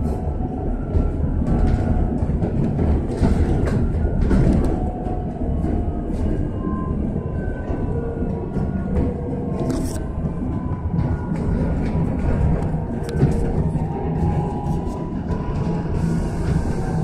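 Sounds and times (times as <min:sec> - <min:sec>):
interior rattles and knocks: 0:00.0 - 0:17.0
low road rumble: 0:00.0 - 0:17.0.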